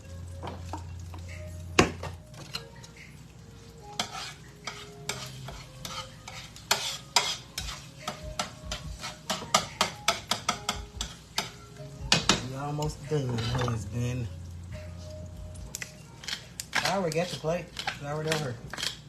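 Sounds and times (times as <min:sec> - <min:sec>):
utensil stirring and clinking cookware: 0:00.0 - 0:19.0.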